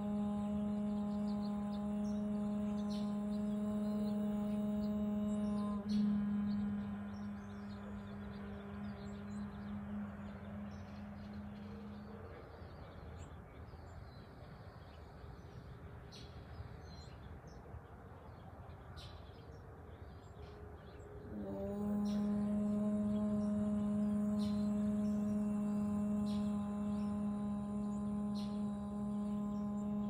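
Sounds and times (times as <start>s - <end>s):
woman chanting om: 0.0s - 19.4s, 20.0s - 30.0s.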